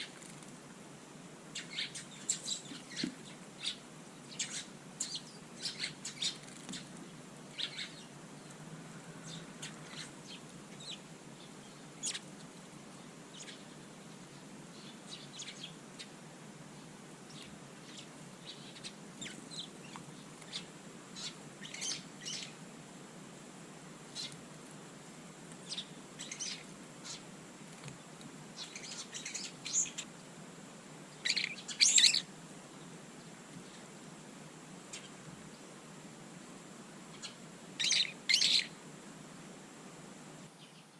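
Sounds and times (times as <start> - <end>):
small birds chirping: 0.0 - 0.6, 1.5 - 22.9, 24.0 - 34.2, 34.8 - 36.0, 37.0 - 38.8, 40.2 - 40.9.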